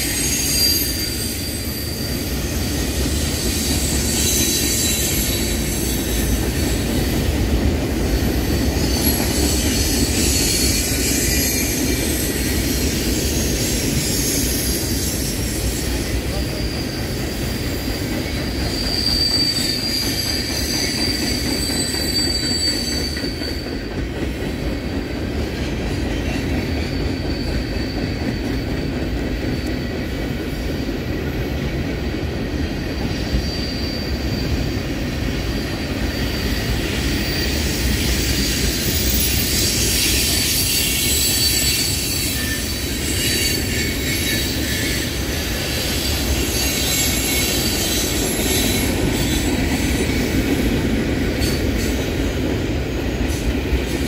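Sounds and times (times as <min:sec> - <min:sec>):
high wheel squeal: 0:00.0 - 0:07.2, 0:08.1 - 0:23.9, 0:25.6 - 0:30.1, 0:32.9 - 0:50.7
steel wheels rumbling on rail: 0:00.0 - 0:54.0.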